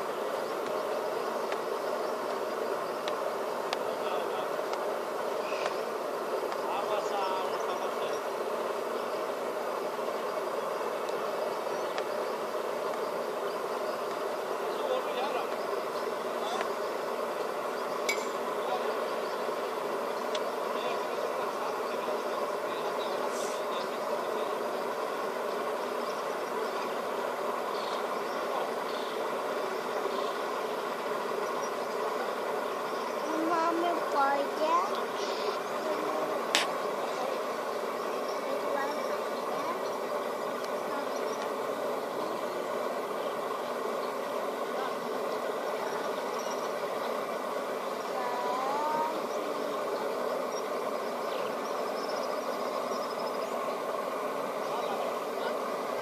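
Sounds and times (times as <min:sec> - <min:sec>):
outboard engines idling: 0:00.0 - 0:56.0.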